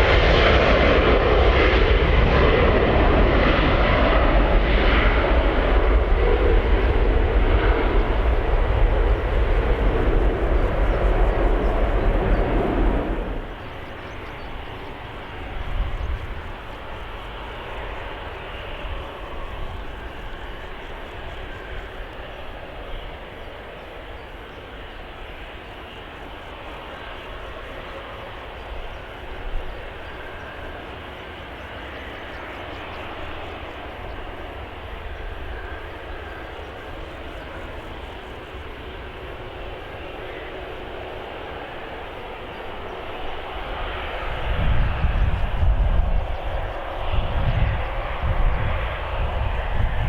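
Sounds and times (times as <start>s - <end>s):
aircraft engine noise: 0.0s - 50.0s.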